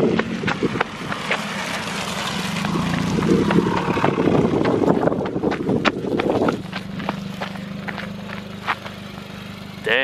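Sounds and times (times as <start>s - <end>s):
car engine and exhaust drone: 0.0s - 10.0s.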